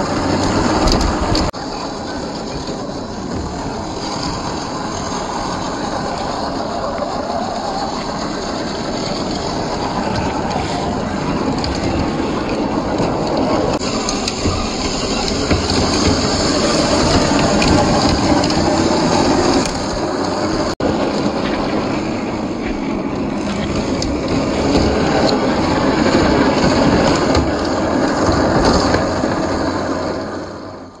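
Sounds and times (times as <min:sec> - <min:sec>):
tyres grinding over gravel: 0:00.0 - 0:30.9
rc car motor whirring: 0:00.0 - 0:31.0.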